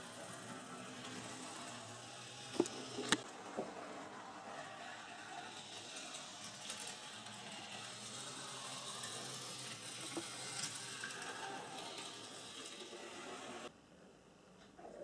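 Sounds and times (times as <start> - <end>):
model train motor whirring: 0.0 - 13.7.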